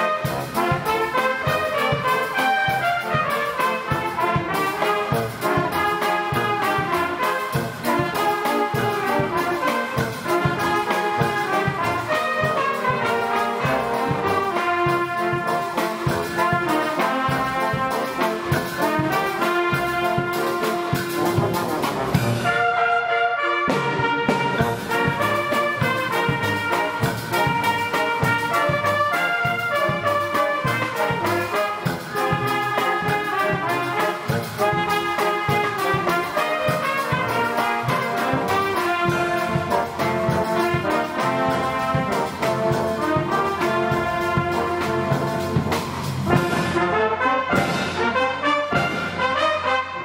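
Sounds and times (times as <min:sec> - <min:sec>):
percussion beat: 0:00.0 - 0:22.5, 0:24.4 - 0:46.8
orchestra playing: 0:00.0 - 0:50.0
trumpets and trombones: 0:00.0 - 0:50.0.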